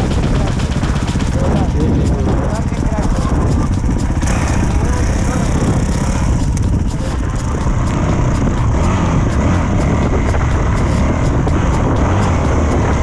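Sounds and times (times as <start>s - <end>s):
dirt bike engine droning: 0.0s - 13.0s.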